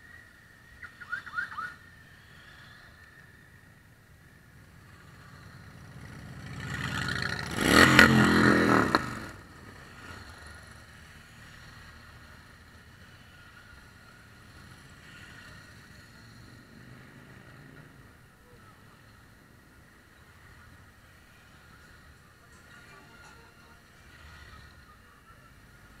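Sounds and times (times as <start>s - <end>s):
quieter motorcycles passing: 0.0s - 26.0s
motorcycle riding past: 0.3s - 26.0s.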